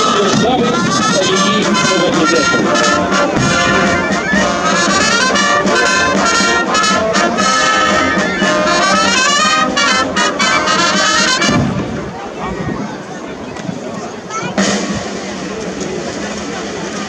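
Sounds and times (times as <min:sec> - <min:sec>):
military brass band playing: 0:00.0 - 0:12.4, 0:14.6 - 0:17.0.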